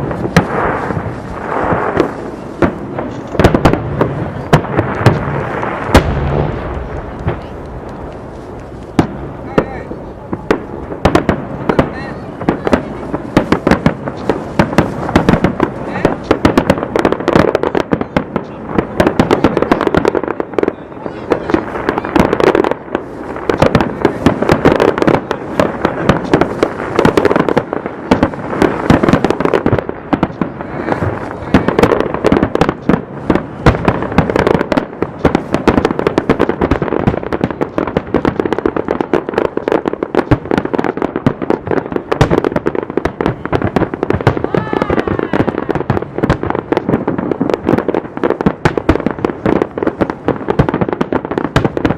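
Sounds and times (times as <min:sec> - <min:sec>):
fireworks exploding: 0:00.0 - 0:51.9.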